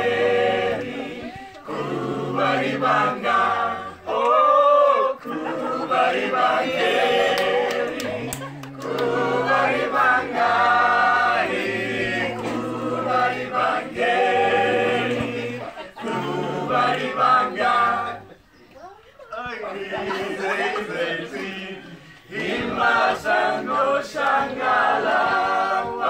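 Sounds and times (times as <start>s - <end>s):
group of people singing in chorus: 0.0s - 18.6s, 19.4s - 26.0s.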